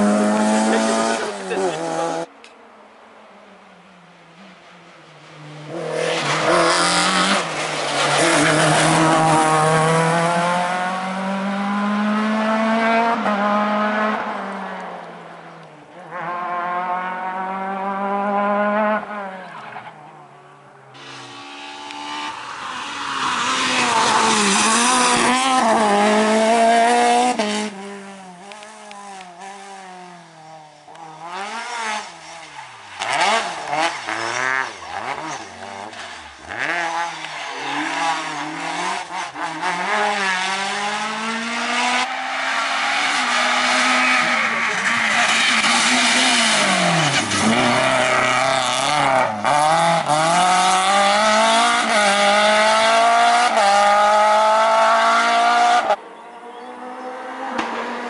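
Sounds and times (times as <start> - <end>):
rally cars revving past: 0.0 - 2.3, 5.1 - 20.2, 21.0 - 58.0.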